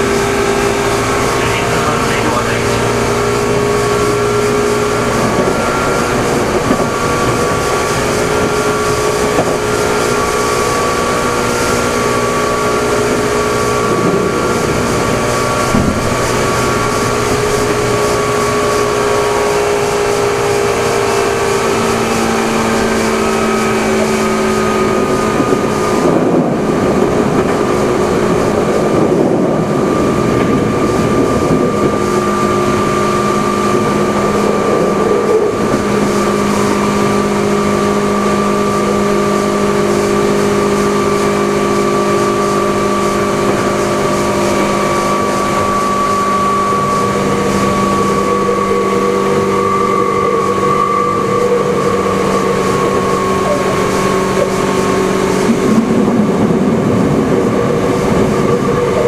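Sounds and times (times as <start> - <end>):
low hum: 0.0 - 59.0
motor and gear whine: 0.0 - 59.0
train wheels rumbling on rail: 0.0 - 59.0.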